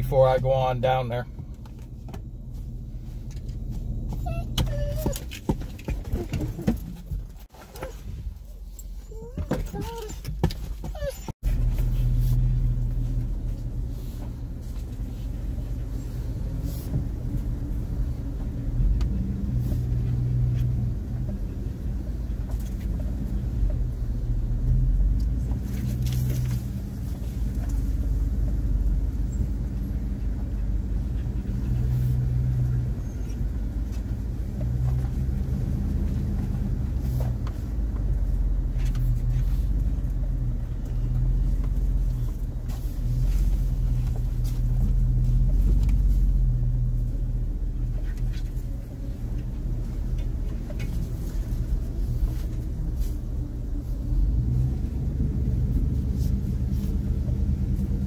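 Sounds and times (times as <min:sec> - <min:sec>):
truck engine rumbling at low revs: 0:00.0 - 0:58.0.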